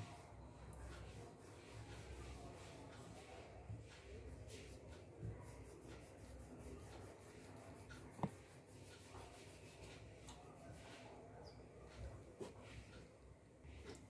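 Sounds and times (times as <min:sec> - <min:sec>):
oil pastel scratching on paper: 0:00.0 - 0:13.0.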